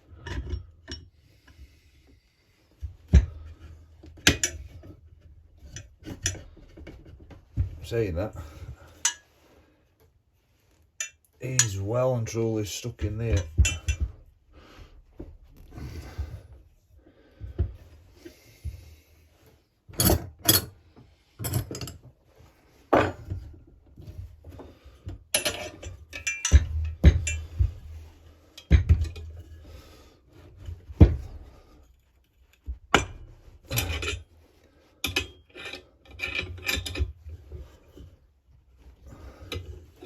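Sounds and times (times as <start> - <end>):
scraping and handling: 2.7 - 40.0.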